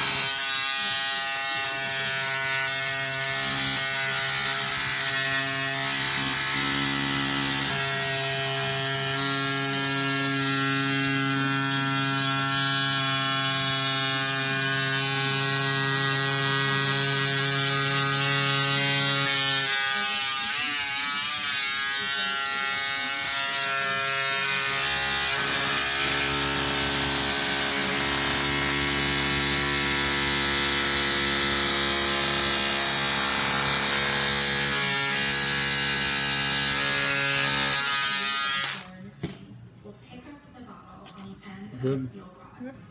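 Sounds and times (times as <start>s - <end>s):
electric scissors buzzing: 0.0s - 39.1s.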